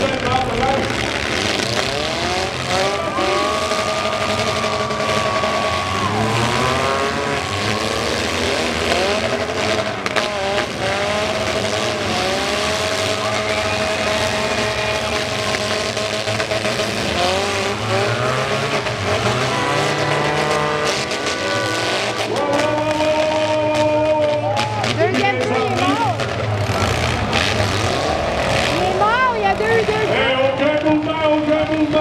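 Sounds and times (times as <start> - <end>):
car engines revving hard: 0.0 - 32.0
cars crashing: 0.0 - 32.0.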